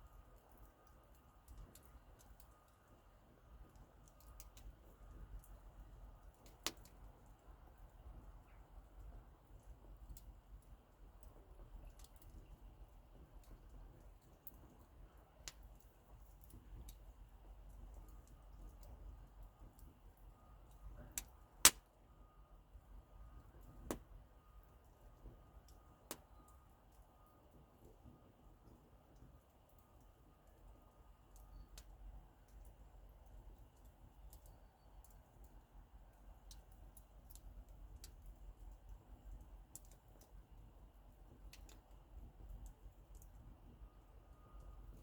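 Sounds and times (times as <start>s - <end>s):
campfire crackling and popping: 0.0s - 22.0s, 23.4s - 45.0s.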